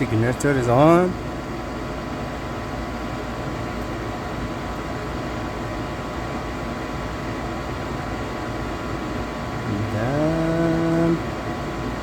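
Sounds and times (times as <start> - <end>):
faint steady whine: 0.0 - 12.0
furnace fan whooshing hum: 0.0 - 12.0.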